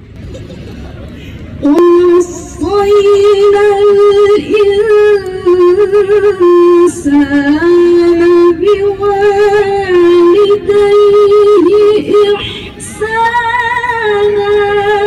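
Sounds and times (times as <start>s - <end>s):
woman chanting recitation: 1.6s - 15.0s.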